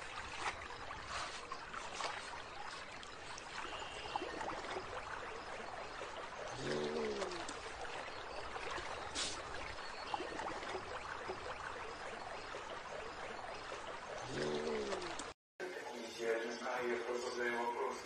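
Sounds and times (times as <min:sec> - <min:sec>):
water trickling and lapping: 0:00.0 - 0:15.4.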